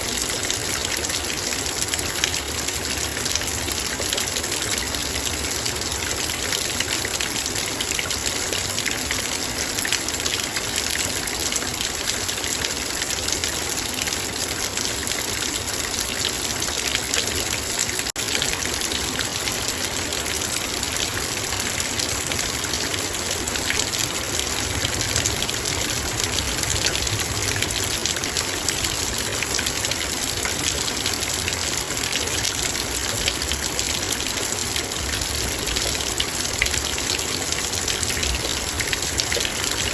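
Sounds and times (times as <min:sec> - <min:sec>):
heavy rain on a metal bowl: 0:00.0 - 0:39.9.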